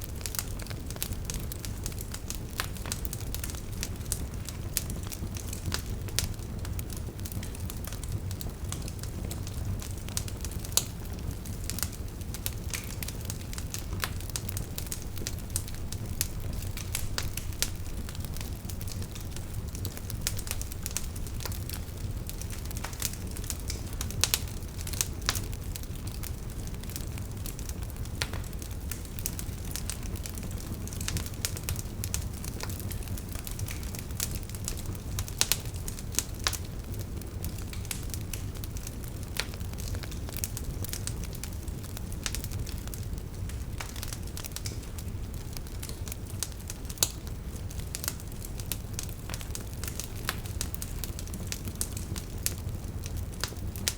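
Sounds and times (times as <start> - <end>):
campfire flames rumbling: 0.0 - 53.9
fire crackling and popping: 0.0 - 53.9.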